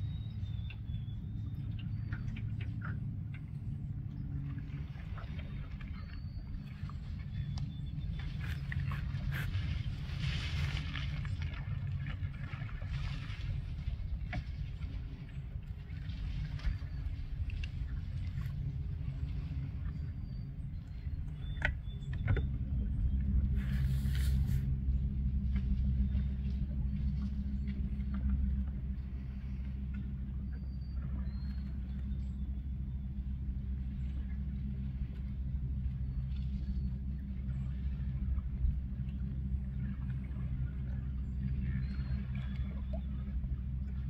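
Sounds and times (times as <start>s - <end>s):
boat engine running steadily: 0.0s - 44.0s.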